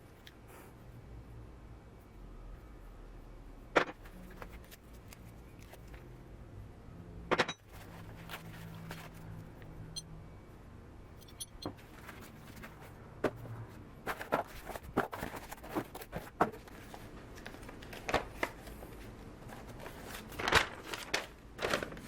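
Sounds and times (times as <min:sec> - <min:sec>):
low steady hum: 0:00.0 - 0:21.8.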